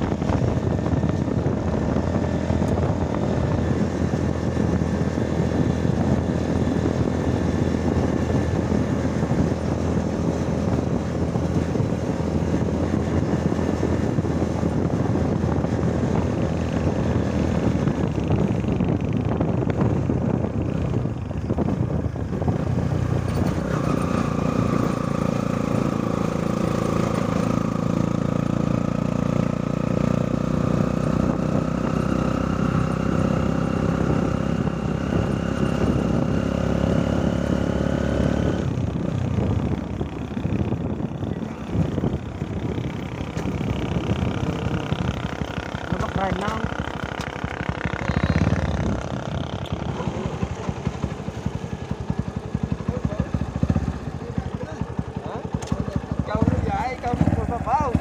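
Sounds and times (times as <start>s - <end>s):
motorcycle engine running: 0.0s - 58.0s
road noise: 0.0s - 58.0s
wind: 0.0s - 58.0s.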